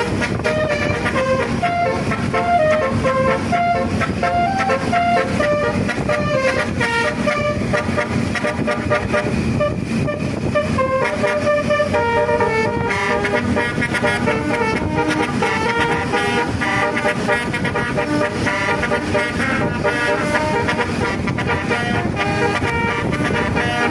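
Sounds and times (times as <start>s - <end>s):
multi-tone bus horn playing tune: 0.0s - 23.9s.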